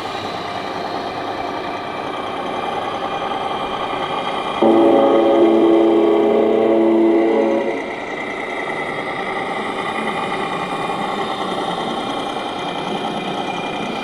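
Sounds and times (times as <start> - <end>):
model truck engine idling: 0.0 - 14.0.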